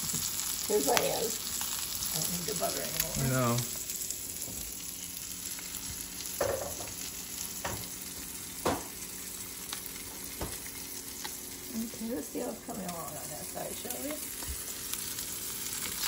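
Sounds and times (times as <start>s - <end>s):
meat sizzling in frying pan: 0.0s - 16.0s.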